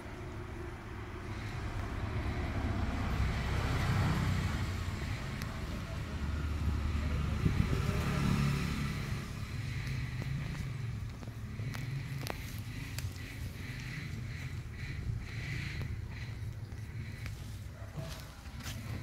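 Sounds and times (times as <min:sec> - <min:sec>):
passing motor vehicle rumble: 0:00.0 - 0:19.0.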